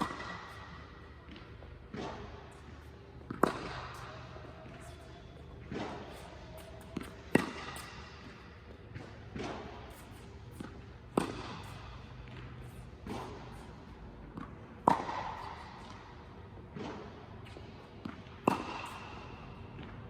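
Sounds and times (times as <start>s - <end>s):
racket hitting tennis balls: 0.0s - 20.0s.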